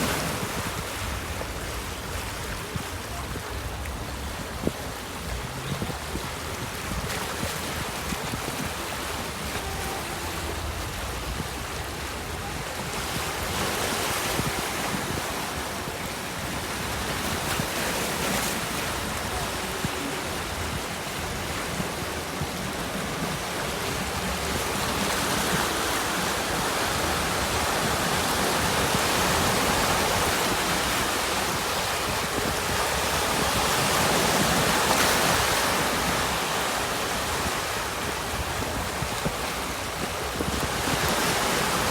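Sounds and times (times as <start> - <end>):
waves breaking on shore: 0.0 - 41.9
wind on microphone: 0.0 - 41.9.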